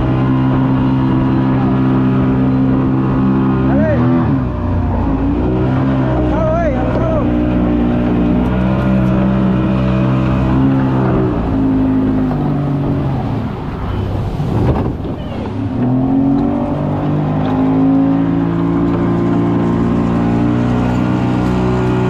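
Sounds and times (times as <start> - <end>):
outboard motor running: 0.0 - 22.0
rush of water: 0.0 - 22.0.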